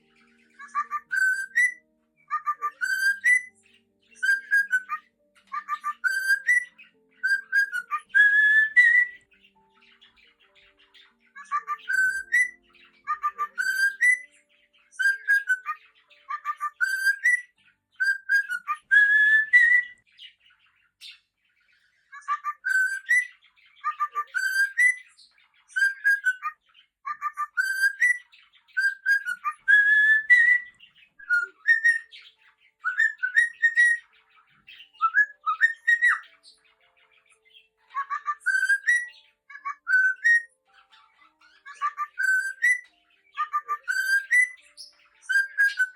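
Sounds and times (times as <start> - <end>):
cockatiel whistling song: 0.0 - 45.9.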